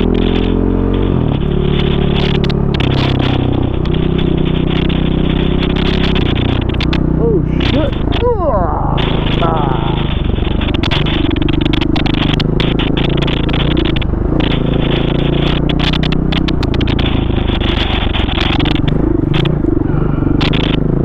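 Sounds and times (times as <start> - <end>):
dirt bike engine revving: 0.0 - 21.0
knocks and clatter over rough ground: 0.0 - 21.0.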